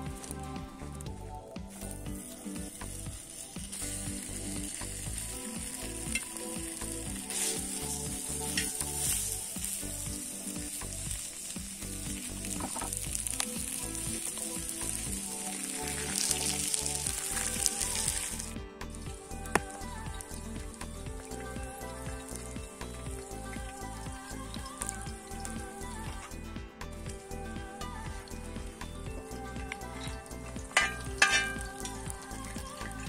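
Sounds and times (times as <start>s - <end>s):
pork fat sizzling in a pan: 1.7s - 18.6s, 19.2s - 26.1s, 29.2s - 33.0s
fat crackling: 1.7s - 25.8s, 29.7s - 33.0s.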